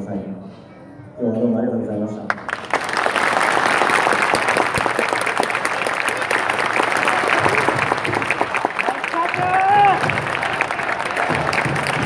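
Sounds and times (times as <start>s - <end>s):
crowd clapping: 2.3s - 12.0s.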